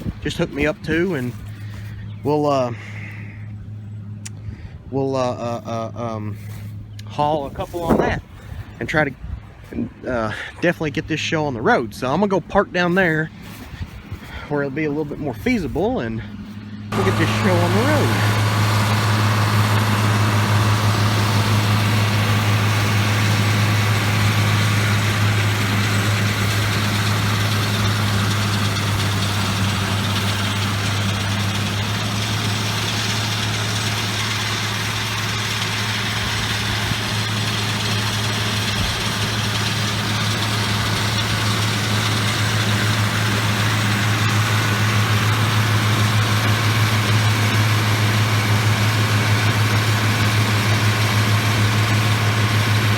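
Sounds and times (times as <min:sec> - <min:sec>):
truck engine running: 0:00.0 - 0:52.9.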